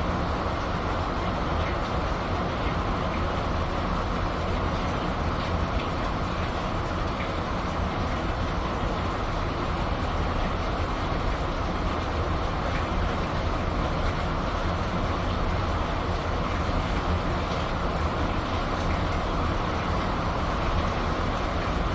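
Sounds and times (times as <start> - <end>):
steady rain: 0.0 - 21.9.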